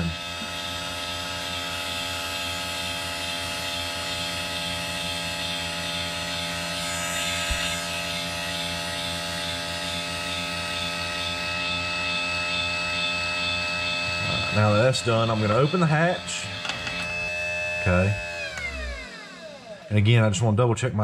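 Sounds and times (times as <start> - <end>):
electric motor humming and whining: 0.0 - 20.4.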